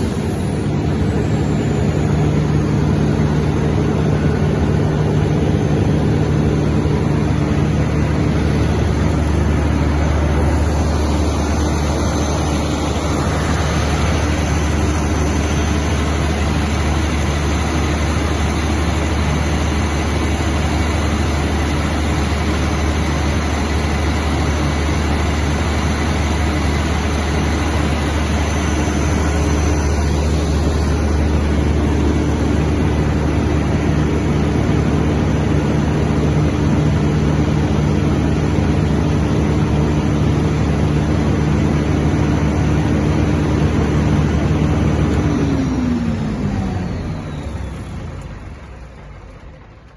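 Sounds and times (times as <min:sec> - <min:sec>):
diesel generator droning: 0:00.0 - 0:49.9.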